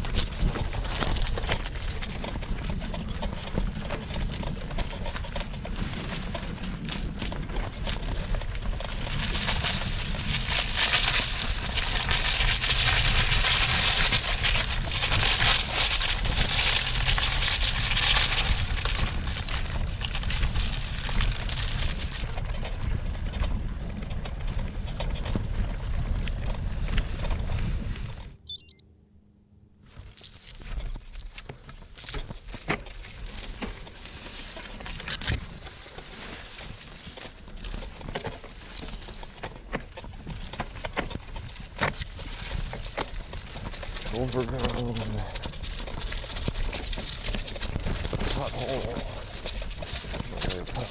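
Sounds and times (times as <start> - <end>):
bicycle rattling: 0.0 - 28.4, 29.9 - 50.9
bicycle tyres crunching: 0.0 - 28.4, 29.8 - 50.9
weeds brushing against bike: 3.6 - 23.4, 29.8 - 50.9.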